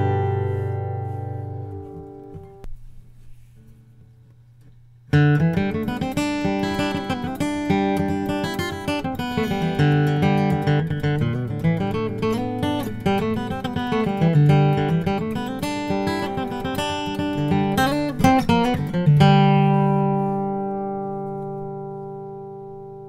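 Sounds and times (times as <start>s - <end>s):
acoustic guitar chords and notes: 0.0s - 23.0s.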